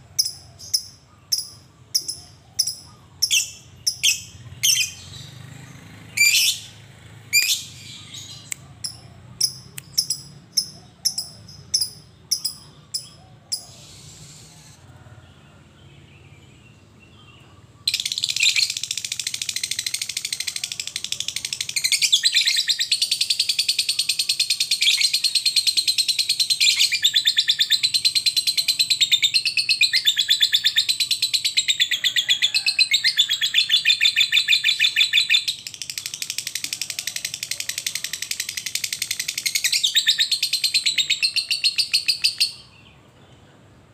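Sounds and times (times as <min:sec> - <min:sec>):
lovebird chirping and trilling: 0:00.2 - 0:14.8, 0:17.8 - 0:42.8.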